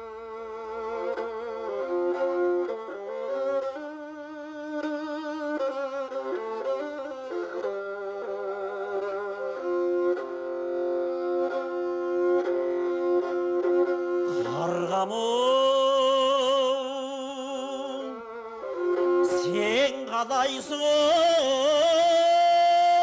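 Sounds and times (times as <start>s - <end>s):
bowed fiddle droning: 0.0s - 23.0s.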